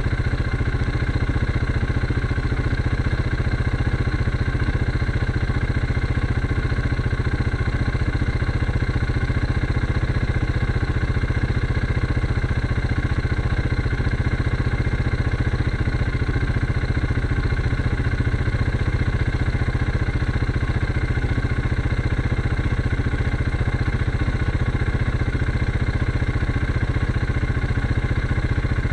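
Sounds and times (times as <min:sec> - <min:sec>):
quad engine idling: 0:00.0 - 0:28.9.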